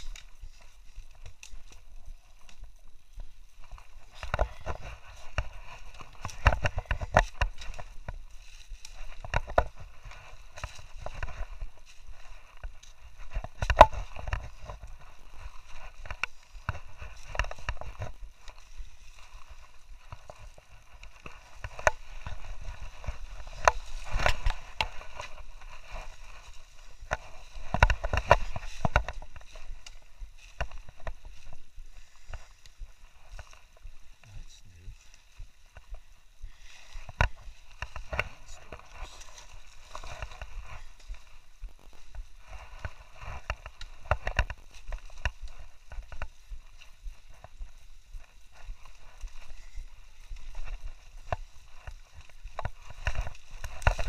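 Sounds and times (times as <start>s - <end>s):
footsteps crunching on dry leaves: 0.0s - 54.0s.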